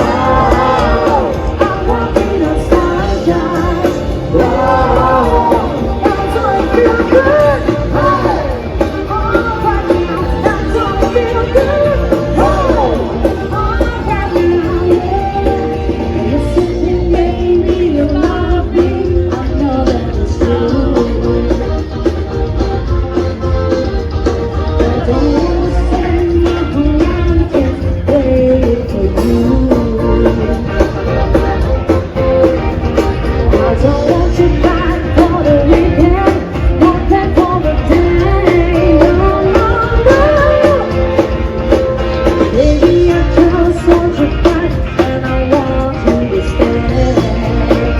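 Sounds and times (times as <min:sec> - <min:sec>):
upbeat pop song with singing: 0:00.0 - 0:47.9.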